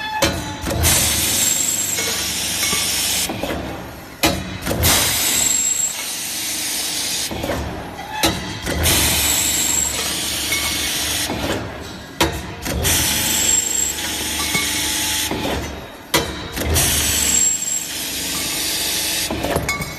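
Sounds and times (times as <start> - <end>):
pipe cutting machine clack: 0.2 - 3.4, 4.2 - 6.2, 8.2 - 19.9.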